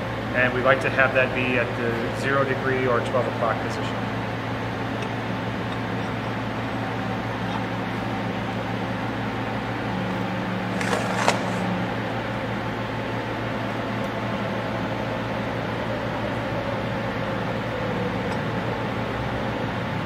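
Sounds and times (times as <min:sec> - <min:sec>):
workshop hum: 0:00.0 - 0:20.0.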